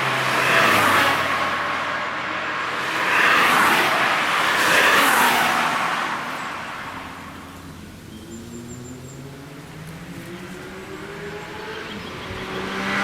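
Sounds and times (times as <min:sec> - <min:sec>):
cars passing by: 0:00.0 - 0:13.0.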